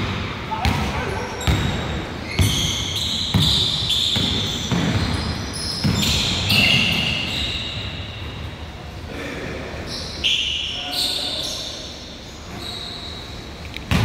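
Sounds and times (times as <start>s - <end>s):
sneaker squeaks: 0.5s - 8.7s, 9.8s - 14.0s.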